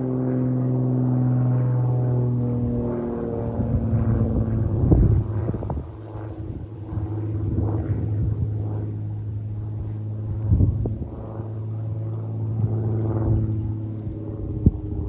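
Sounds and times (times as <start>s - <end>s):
propeller plane droning overhead: 0.0s - 15.0s
wind buffeting microphone: 2.7s - 15.0s.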